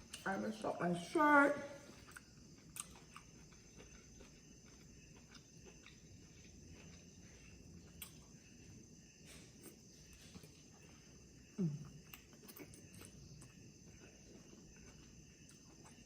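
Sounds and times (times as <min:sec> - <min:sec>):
faint eating sounds: 0:00.0 - 0:16.0.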